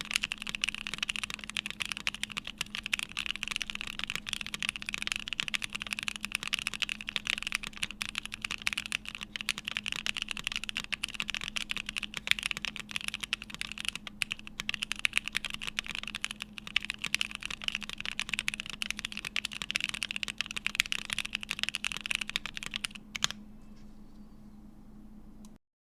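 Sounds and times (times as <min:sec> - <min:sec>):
fast typing on mechanical keyboard: 0:00.0 - 0:23.4.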